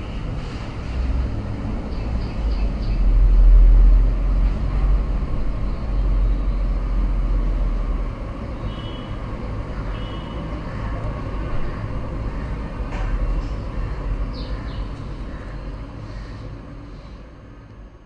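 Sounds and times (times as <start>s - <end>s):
road traffic engines rumbling: 0.0s - 18.0s.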